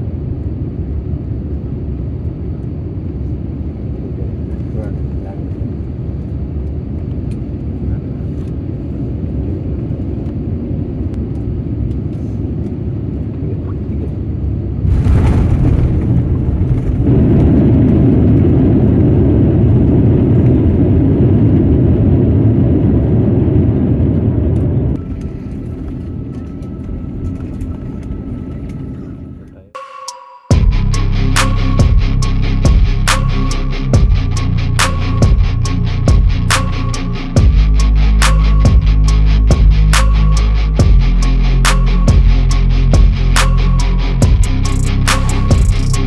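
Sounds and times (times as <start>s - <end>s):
airliner rumble: 0.0s - 29.8s, 30.5s - 46.0s.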